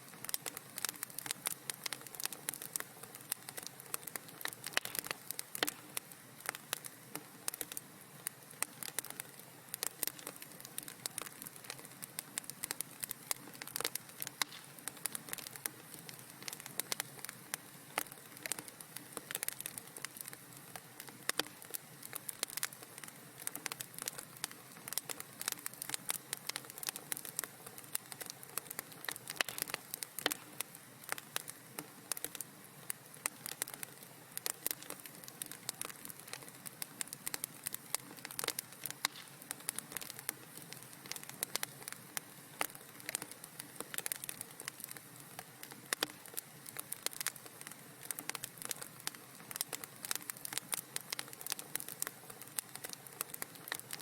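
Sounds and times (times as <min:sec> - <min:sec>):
soft steady hiss: 0:00.0 - 0:54.0
wood fire crackling and popping: 0:00.0 - 0:54.0.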